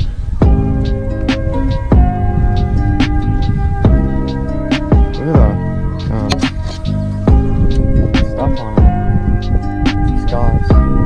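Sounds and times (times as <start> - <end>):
music with sustained chords and beat: 0.0 - 11.0
deep pitch-dropping kick hits: 0.4 - 10.0.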